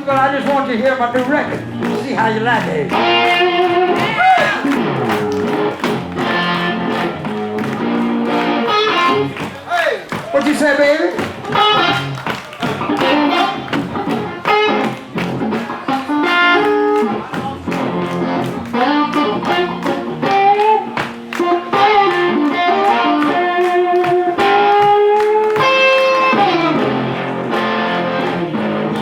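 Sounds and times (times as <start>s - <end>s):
electric blues guitar: 0.0s - 29.0s.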